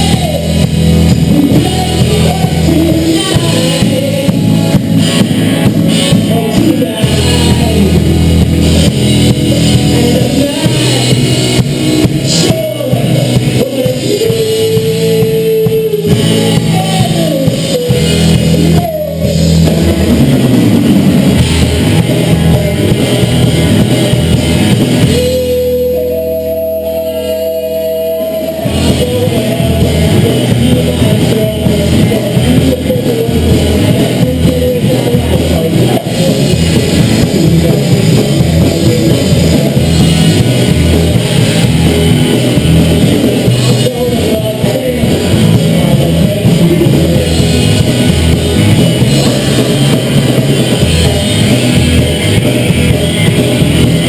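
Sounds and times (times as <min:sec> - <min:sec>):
drum kit: 0:00.0 - 0:54.0
lead singer: 0:00.0 - 0:54.0
live rock band: 0:00.0 - 0:54.0.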